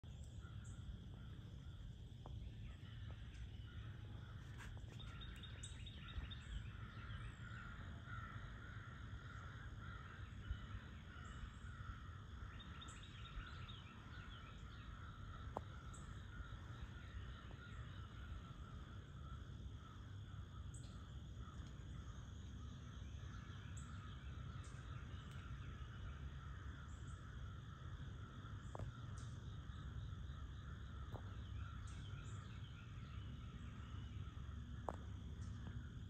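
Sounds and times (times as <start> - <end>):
bird calling: 0.0 - 36.0
insect drone: 0.0 - 36.0.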